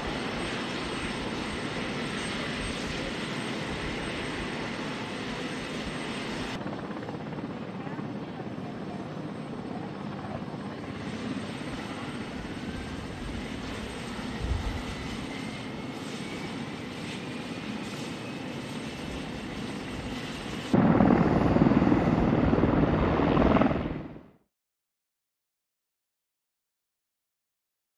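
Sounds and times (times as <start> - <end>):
helicopter engine and rotors: 0.0 - 24.5.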